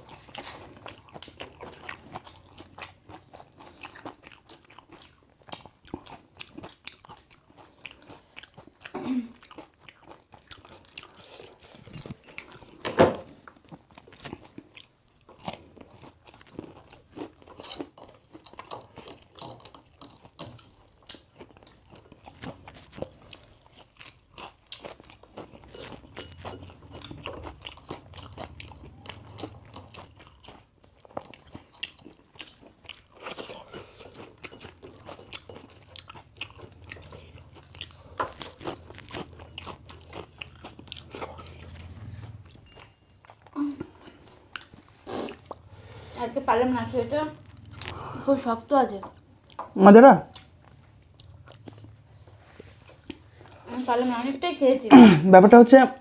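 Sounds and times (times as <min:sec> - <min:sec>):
person chewing crunchy food: 0:00.0 - 0:55.2.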